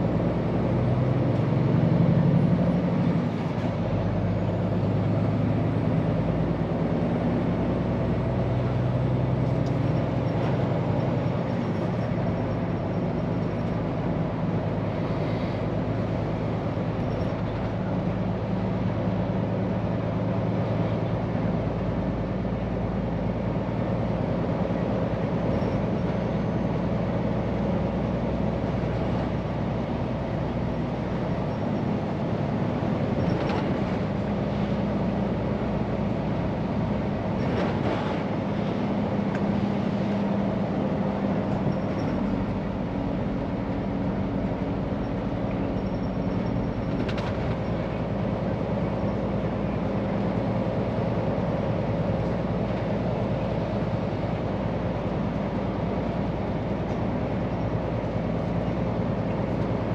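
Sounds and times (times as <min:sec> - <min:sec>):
road noise: 0:00.0 - 0:59.9
truck engine drone: 0:00.0 - 0:59.9.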